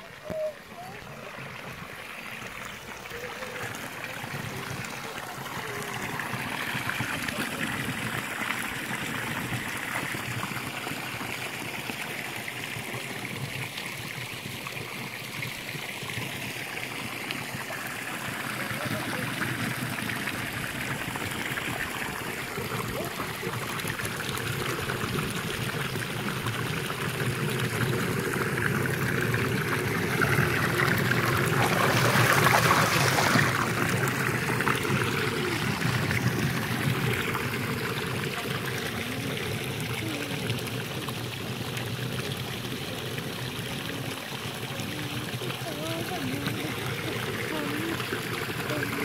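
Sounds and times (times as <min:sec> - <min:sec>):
water pouring into concrete channel: 0:00.0 - 0:49.0.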